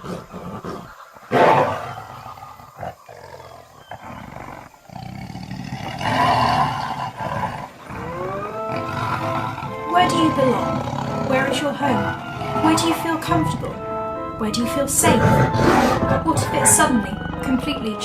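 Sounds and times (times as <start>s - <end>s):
tiger roaring and growling: 0.0s - 18.0s.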